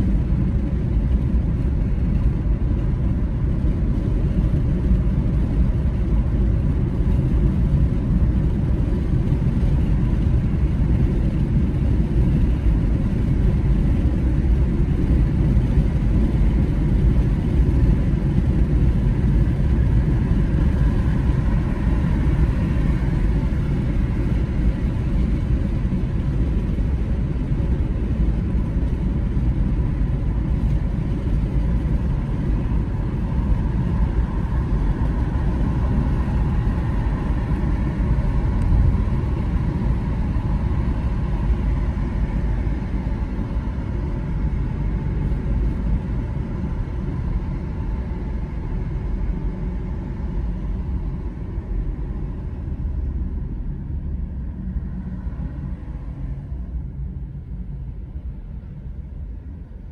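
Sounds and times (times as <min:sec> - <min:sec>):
car tyres and engine rumble: 0:00.0 - 0:59.9
faint steady whine: 0:00.0 - 0:59.9.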